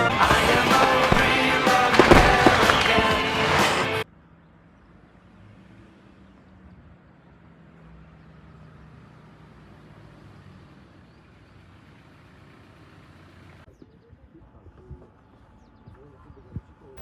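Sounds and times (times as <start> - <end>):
engine hum: 0.0 - 17.0
road noise: 0.0 - 17.0.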